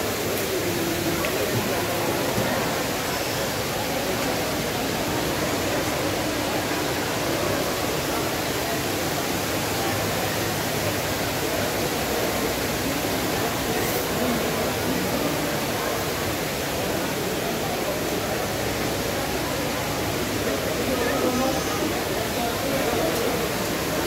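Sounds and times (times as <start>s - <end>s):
faint crowd murmur: 0.0s - 24.0s
shopping mall hall rushing noise: 0.0s - 24.0s.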